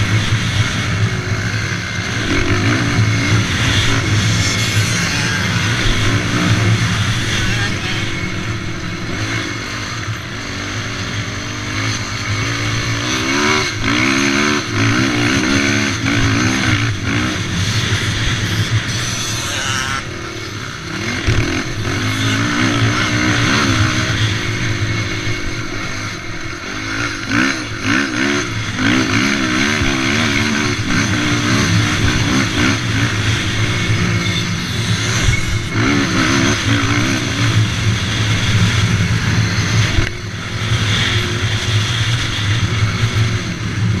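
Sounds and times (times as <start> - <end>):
quad engine revving: 0.0 - 44.0.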